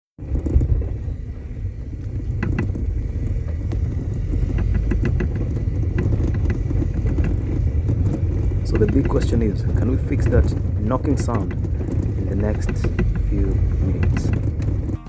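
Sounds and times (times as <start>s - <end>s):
car engine low rumble: 0.2s - 15.0s.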